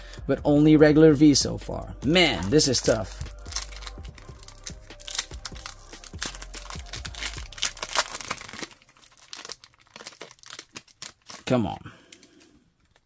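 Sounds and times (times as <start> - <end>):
foil wrapper crinkling and tearing: 2.3 - 13.0.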